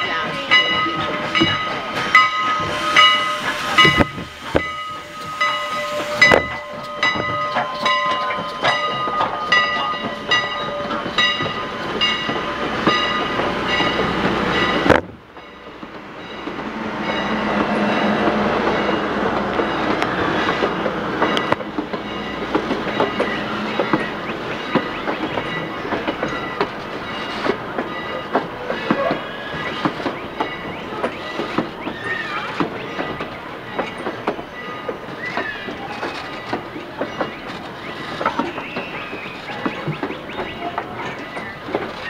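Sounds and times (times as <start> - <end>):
rolling rumble of train: 0.0 - 42.0
train wheels clickety-clack: 0.0 - 42.0.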